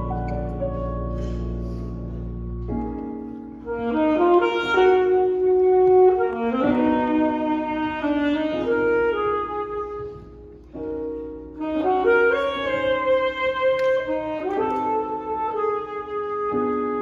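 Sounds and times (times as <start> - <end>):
jazz band playing: 0.0 - 17.0
saxophone: 0.0 - 17.0.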